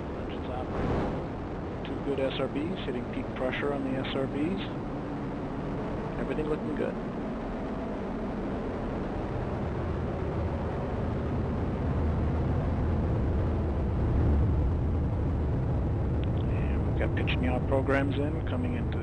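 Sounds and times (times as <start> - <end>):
rocket engine deep rumble: 0.0 - 19.0.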